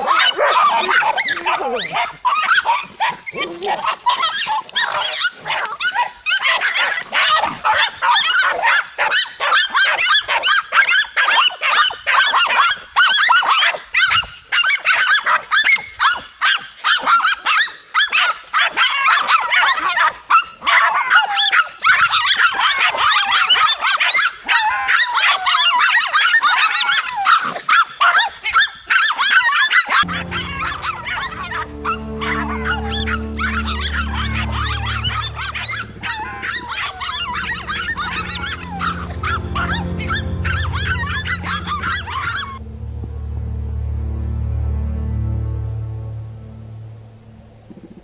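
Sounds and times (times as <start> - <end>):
small dogs barking and yapping: 0.0 - 42.6.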